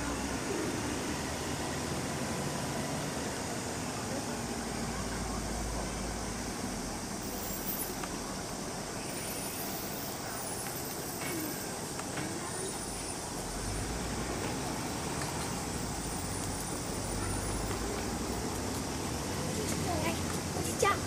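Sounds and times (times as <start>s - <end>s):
faint distant voices: 0.0s - 21.0s.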